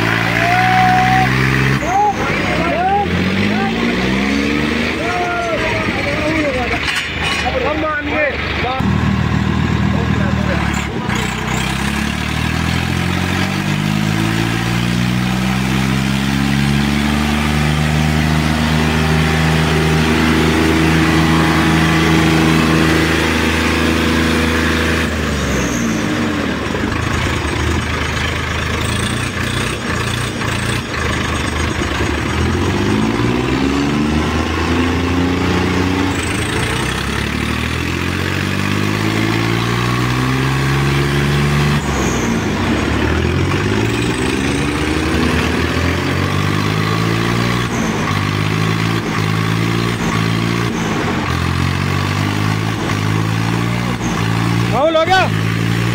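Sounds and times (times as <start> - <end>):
tractor diesel engines revving: 0.0 - 55.9.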